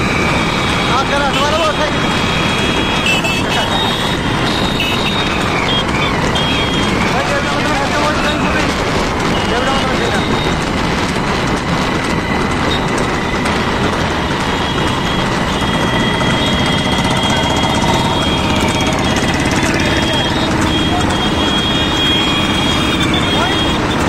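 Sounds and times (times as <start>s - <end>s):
motorcycle engine running: 0.0s - 24.0s
wind noise on microphone: 1.8s - 24.0s.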